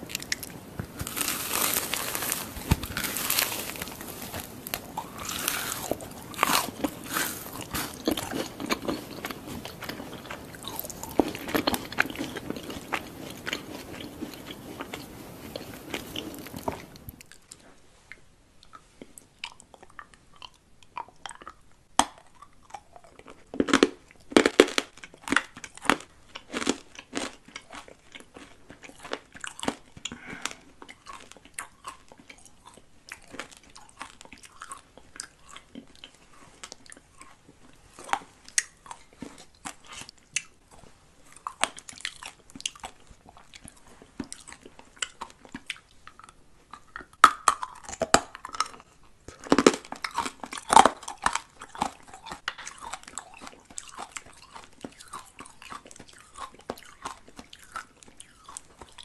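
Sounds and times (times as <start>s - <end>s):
biting and crunching treat: 0.0s - 17.6s, 19.4s - 59.0s.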